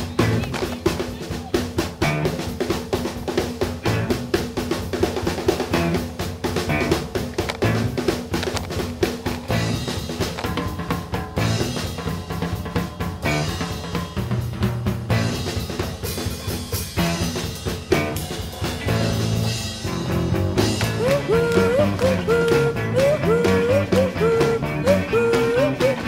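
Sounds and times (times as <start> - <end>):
drum kit music with bass: 0.0 - 26.0.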